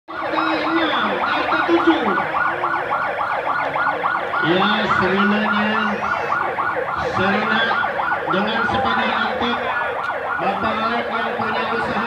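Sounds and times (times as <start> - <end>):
electronic siren yelping: 0.1 - 12.0.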